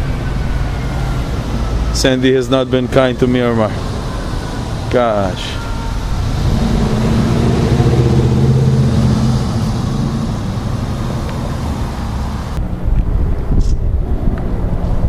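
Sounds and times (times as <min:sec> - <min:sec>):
engine running: 0:00.0 - 0:15.0
rough outdoor noise: 0:00.0 - 0:15.0.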